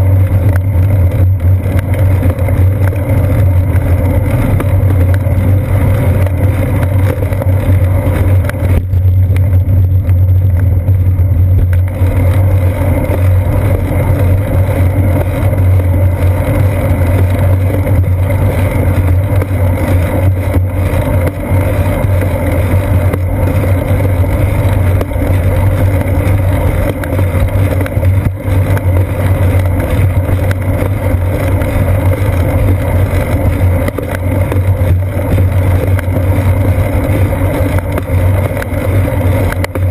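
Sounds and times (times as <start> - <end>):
bicycle road vibration: 0.0 - 39.9
wind rumble: 0.0 - 39.9.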